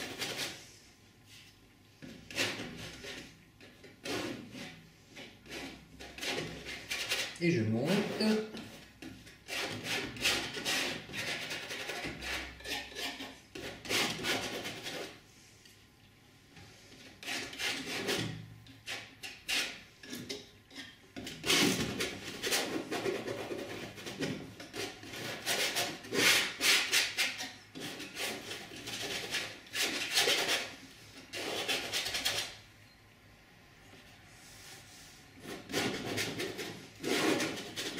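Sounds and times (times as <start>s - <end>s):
painting knife scraping canvas: 0.0s - 15.3s, 16.6s - 32.7s, 34.3s - 37.9s.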